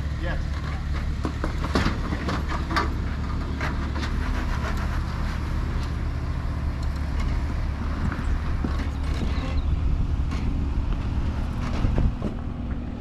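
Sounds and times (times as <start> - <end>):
off-road engine running at low revs: 0.0 - 13.0.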